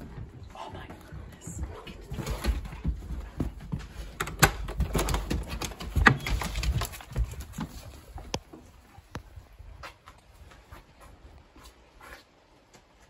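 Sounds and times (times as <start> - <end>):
hurried footsteps: 0.0 - 13.0.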